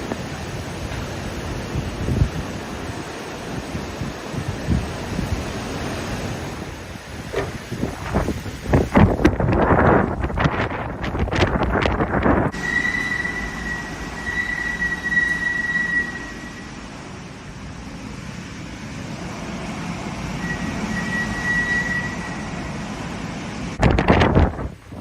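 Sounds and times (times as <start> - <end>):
high steady wind whistle: 0.0 - 25.0
storm wind rushing: 0.0 - 25.0.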